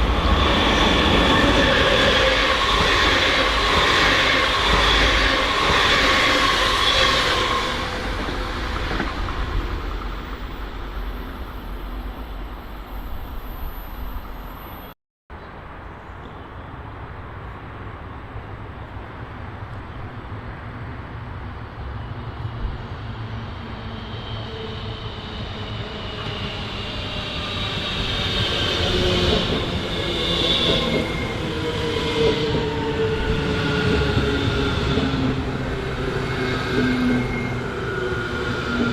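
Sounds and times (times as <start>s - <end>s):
electric train approaching: 0.0s - 14.9s, 21.2s - 38.9s
electric train passing: 0.0s - 14.9s, 20.3s - 38.9s.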